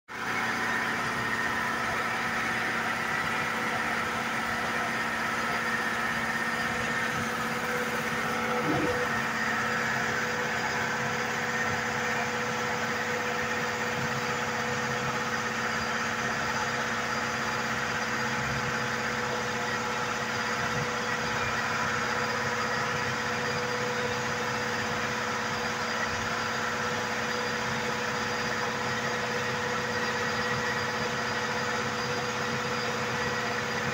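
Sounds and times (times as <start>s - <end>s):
air compressor running: 0.1s - 33.9s.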